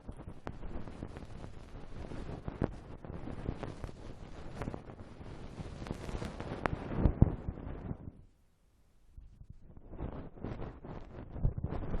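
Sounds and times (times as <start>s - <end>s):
scratchy rustle against microphone: 0.3s - 8.1s, 9.7s - 12.0s.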